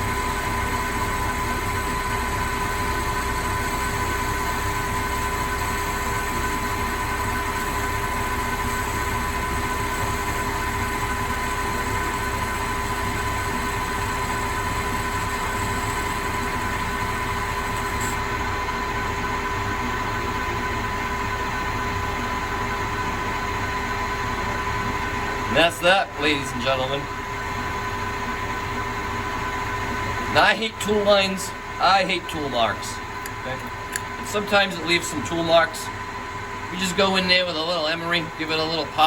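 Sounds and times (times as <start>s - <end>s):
lathe whining: 0.0s - 39.0s.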